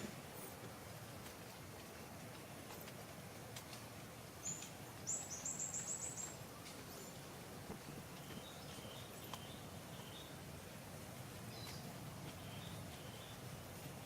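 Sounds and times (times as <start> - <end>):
faint background noise: 0.0 - 14.0
songbird singing: 0.0 - 14.0.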